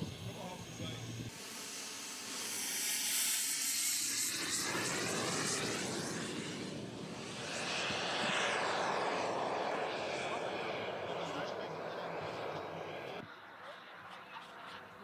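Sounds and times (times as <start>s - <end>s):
model aircraft engine flying past: 0.0s - 15.0s.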